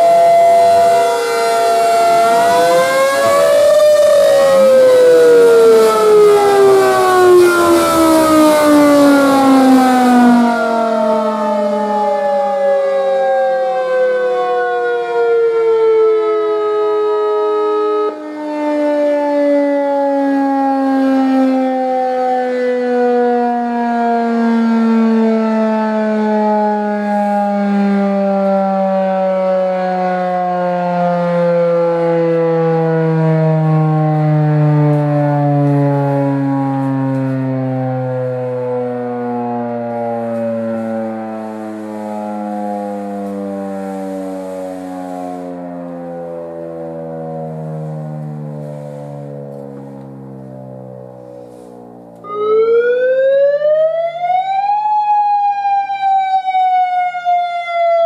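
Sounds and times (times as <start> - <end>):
tornado sirens winding down: 0.0 - 58.0.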